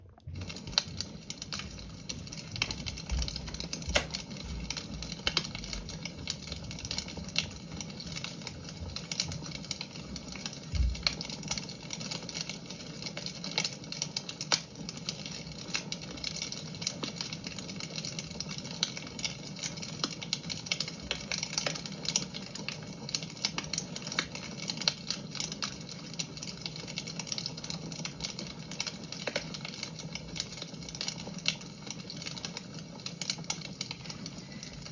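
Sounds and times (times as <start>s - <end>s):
fire pops and snaps: 0.0s - 34.8s
fire crackling: 0.0s - 34.9s.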